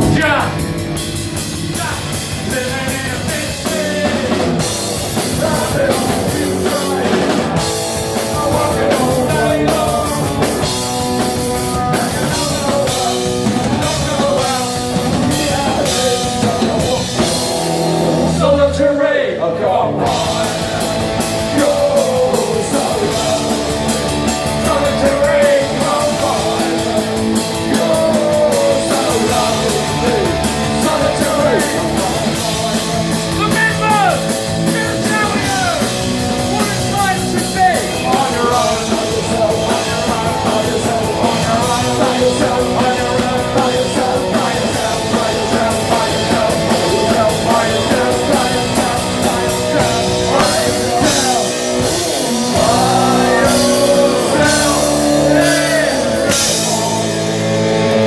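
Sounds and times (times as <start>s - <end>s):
punk rock band playing live: 0.0s - 58.0s
person singing: 1.7s - 58.0s.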